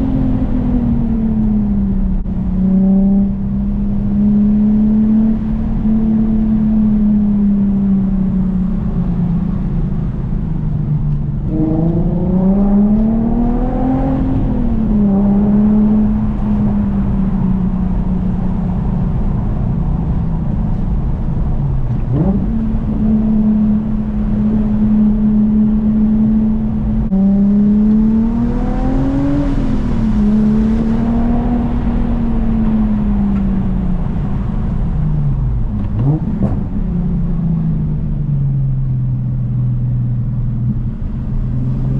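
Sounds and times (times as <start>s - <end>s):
car engine and exhaust while driving: 0.0s - 41.9s.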